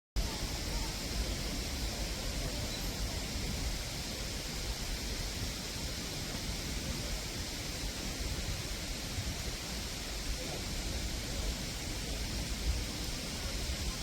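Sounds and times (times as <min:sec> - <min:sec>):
even hiss: 0:00.2 - 0:14.0.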